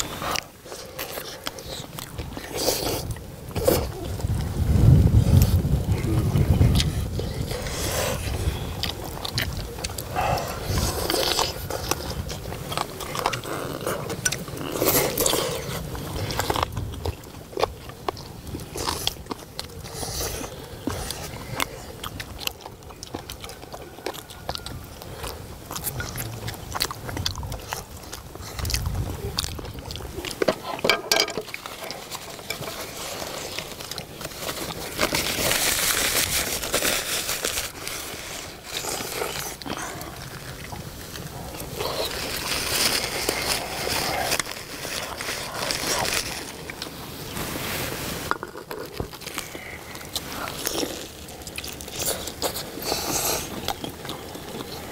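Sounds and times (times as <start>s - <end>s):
people biting and chewing: 0.0s - 54.9s.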